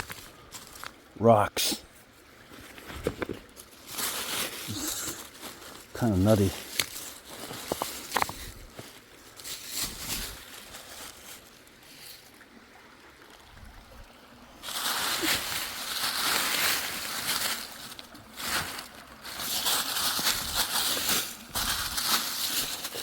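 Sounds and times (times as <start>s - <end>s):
creek water sloshing: 1.9s - 6.0s, 6.6s - 23.0s.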